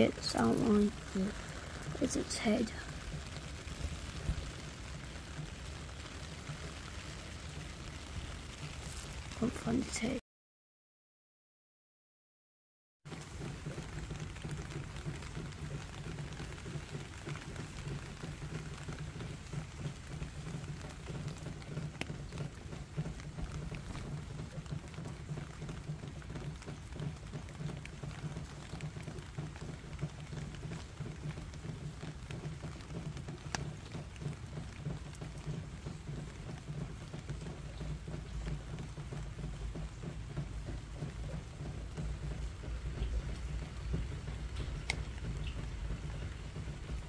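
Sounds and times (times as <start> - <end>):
rain on gravel: 0.0 - 10.2, 13.1 - 47.0.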